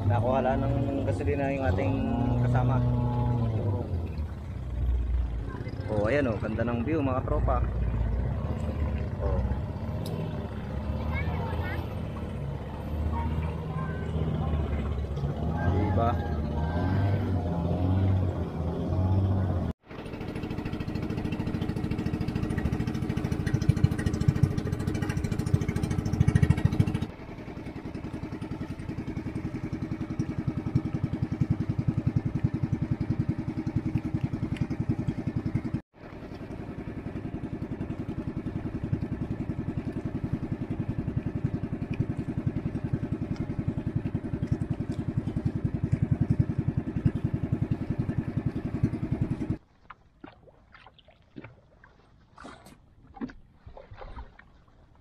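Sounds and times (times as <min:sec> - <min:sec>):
boat engine puttering: 0:00.0 - 0:55.0.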